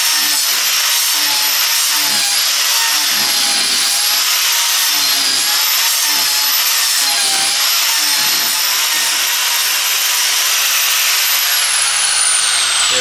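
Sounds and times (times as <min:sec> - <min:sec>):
power grinder cutting wood: 0:00.0 - 0:13.0.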